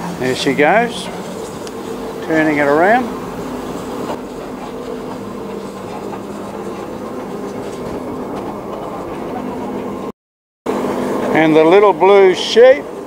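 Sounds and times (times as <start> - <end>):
turntable mechanical hum: 0.0 - 10.1, 10.7 - 13.0.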